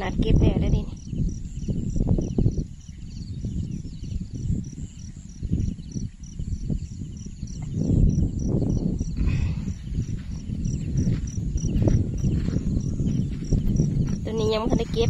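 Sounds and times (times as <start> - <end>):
faint insect trilling: 0.0 - 14.0
insect chirping: 0.0 - 15.0.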